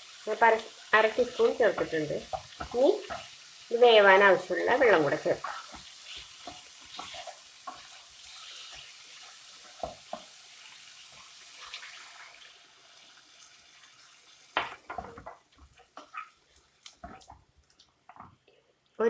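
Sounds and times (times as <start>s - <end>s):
water hissing in a hot pan: 0.0s - 17.5s.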